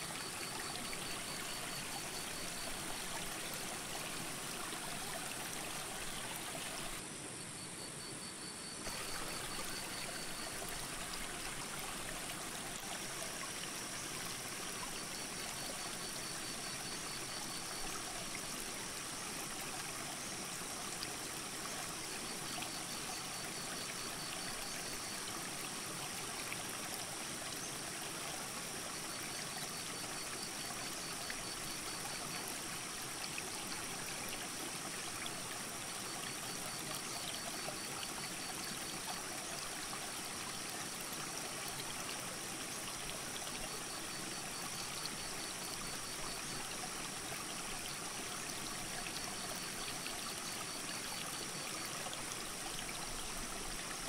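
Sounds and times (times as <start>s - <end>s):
creek running over rocks: 0.0s - 7.1s, 8.8s - 54.0s.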